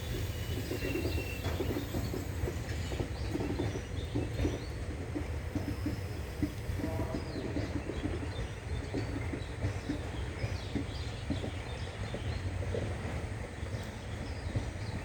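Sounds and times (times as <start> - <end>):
train wheels rumbling on rails: 0.0 - 15.0
wheels and couplings clacking: 0.0 - 15.0.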